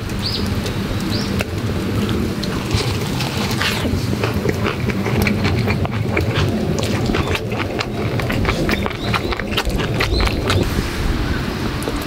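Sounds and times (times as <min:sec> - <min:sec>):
crackles and pops: 0:00.0 - 0:10.8
low rumble of wind: 0:00.0 - 0:12.0.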